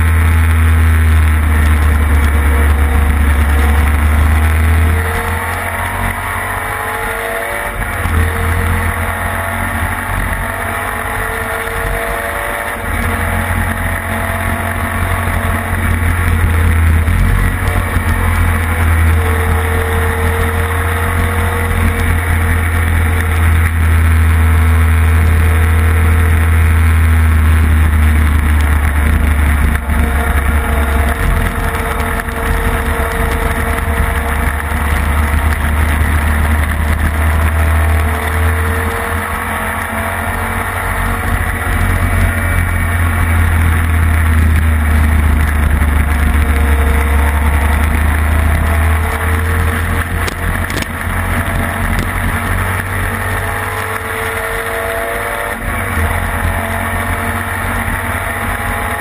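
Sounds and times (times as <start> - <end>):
sidecar engine running hard: 0.0 - 59.0.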